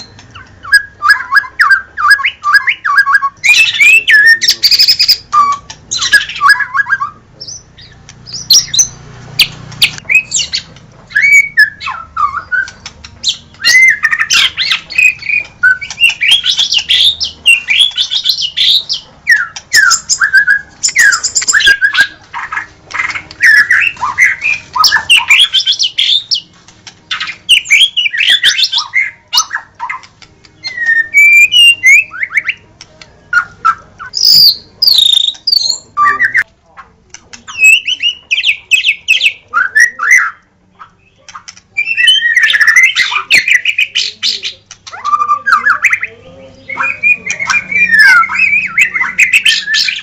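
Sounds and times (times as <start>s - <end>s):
bird singing whistled notes: 0.0s - 26.5s, 27.1s - 32.6s, 33.2s - 36.5s, 37.5s - 50.0s.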